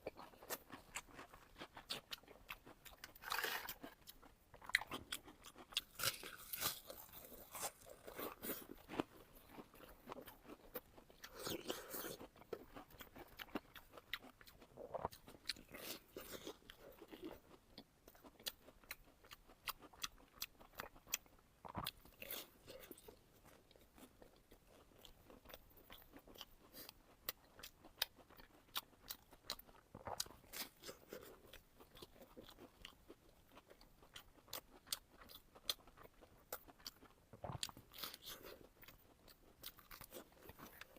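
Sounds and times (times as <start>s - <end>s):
person chewing crisp food: 0.0s - 40.9s.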